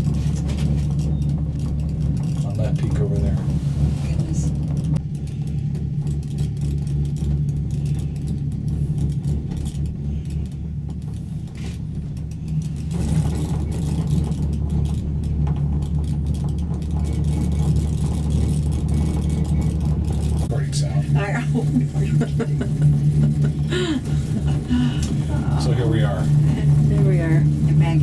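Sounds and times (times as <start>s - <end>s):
gondola cabin low rumble: 0.0s - 28.0s.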